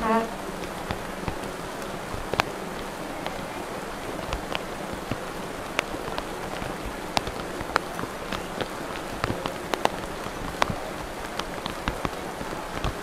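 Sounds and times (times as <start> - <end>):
raindrops ticking: 0.0 - 13.0
steady rain: 0.0 - 13.0.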